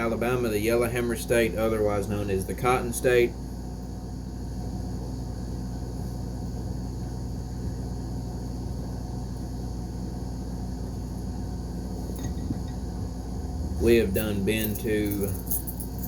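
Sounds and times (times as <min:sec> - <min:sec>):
low background rumble and hum: 0:00.0 - 0:16.0.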